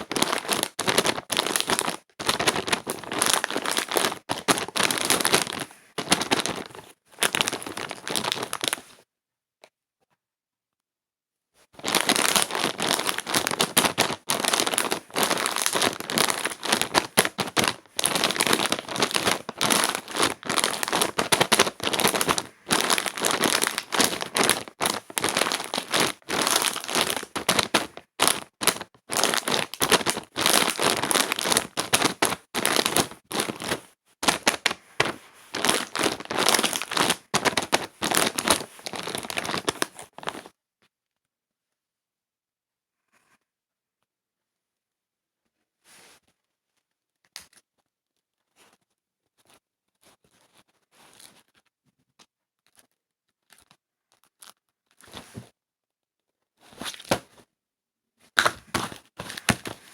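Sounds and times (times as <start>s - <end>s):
crinkling and crackling being crumpled: 0.0s - 9.0s, 11.8s - 41.2s, 46.2s - 55.6s, 58.3s - 59.9s.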